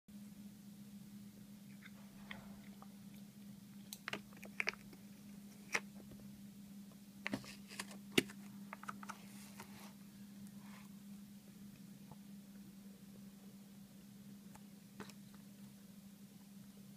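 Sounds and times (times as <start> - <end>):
steady low hum: 0.1 - 16.9.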